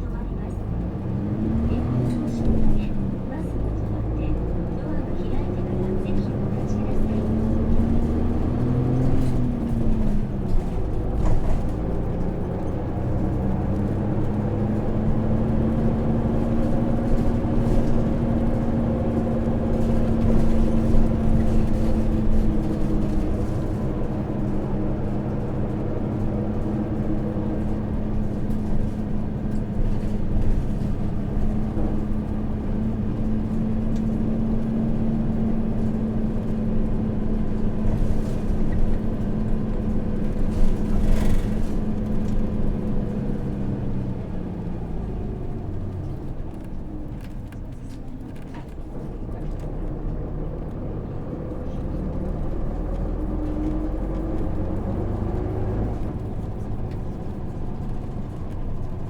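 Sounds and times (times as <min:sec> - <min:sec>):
bus diesel engine running: 0:00.0 - 0:59.0
road and body rumble: 0:00.0 - 0:59.0.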